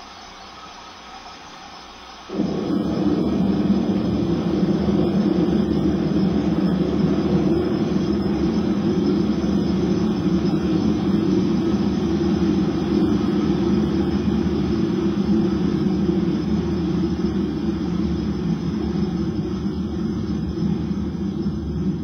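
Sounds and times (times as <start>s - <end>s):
low rumbling drone: 2.3s - 22.0s.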